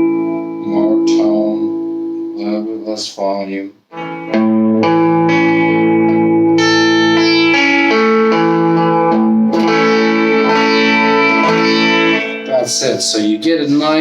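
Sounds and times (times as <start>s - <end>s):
overdriven electric guitar chords: 0.0s - 2.7s, 3.9s - 14.0s.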